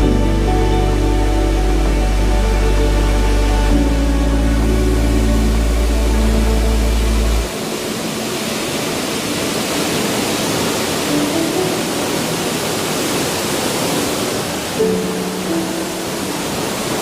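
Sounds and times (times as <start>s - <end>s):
rush of falling water: 0.0s - 17.0s.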